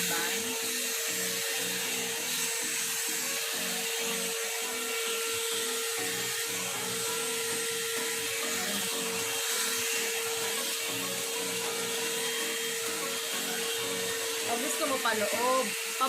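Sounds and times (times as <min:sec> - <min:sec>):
hair dryer motor whine: 0:00.0 - 0:16.0.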